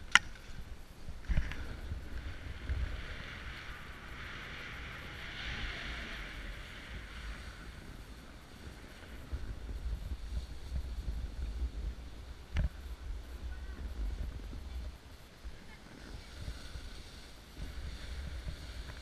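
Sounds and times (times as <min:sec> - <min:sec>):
skis scraping snow: 0:00.0 - 0:19.0
wind rumbling on microphone: 0:00.0 - 0:19.0.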